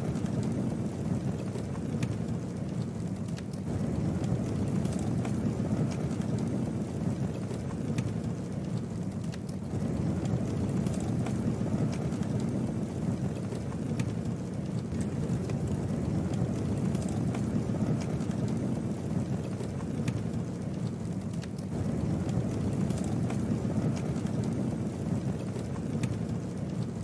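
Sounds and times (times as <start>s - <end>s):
burning wood crackling: 0.0s - 27.0s
flames rushing: 0.0s - 27.0s.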